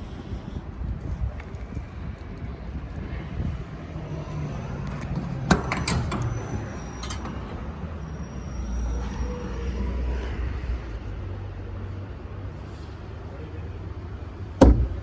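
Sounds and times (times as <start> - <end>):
truck engine rumbling: 0.1 - 12.3, 14.2 - 15.0.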